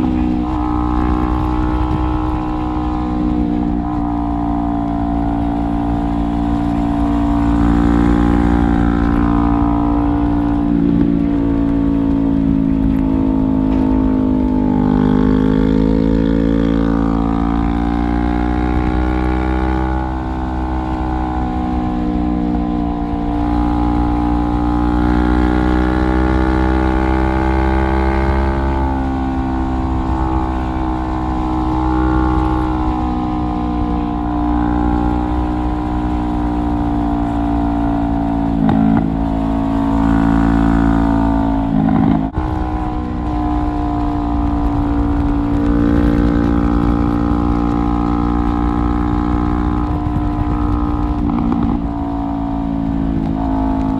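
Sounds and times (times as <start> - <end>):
motorcycle engine through straight-pipe exhaust: 0.0 - 53.9.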